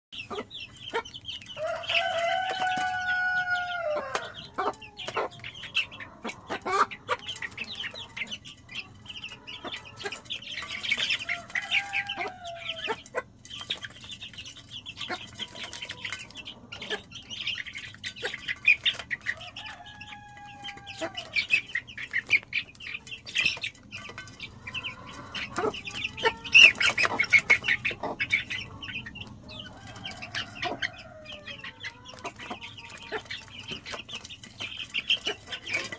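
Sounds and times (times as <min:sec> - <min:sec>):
chicken calling: 0:00.2 - 0:13.9, 0:14.8 - 0:35.9
chicks pecking taps: 0:00.2 - 0:35.9
chicks peeping: 0:00.2 - 0:35.9.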